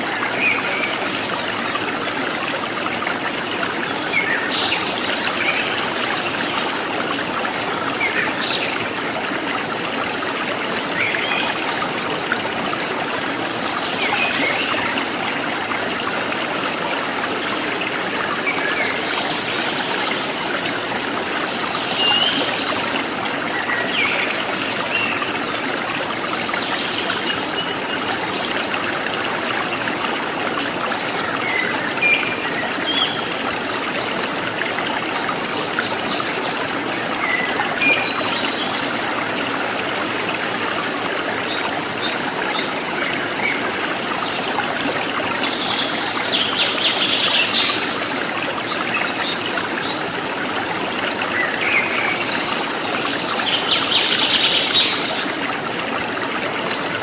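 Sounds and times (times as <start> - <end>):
stream trickling and splashing: 0.0 - 57.0.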